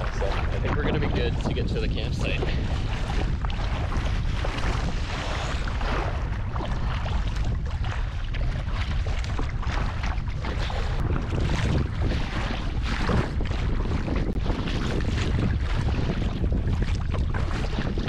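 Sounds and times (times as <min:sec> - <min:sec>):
water splashing against boat: 0:00.0 - 0:18.0
wind buffeting microphone: 0:00.0 - 0:18.0.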